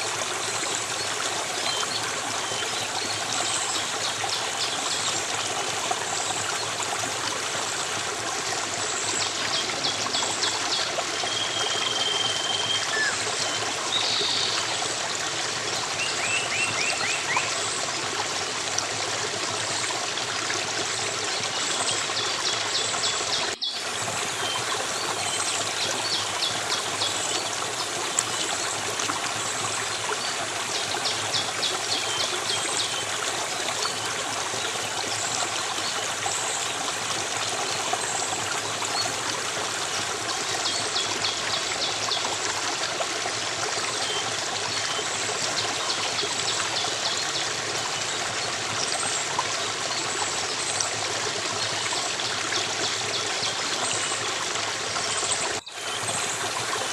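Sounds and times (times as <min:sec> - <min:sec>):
stream of water flowing: 0:00.0 - 0:56.9.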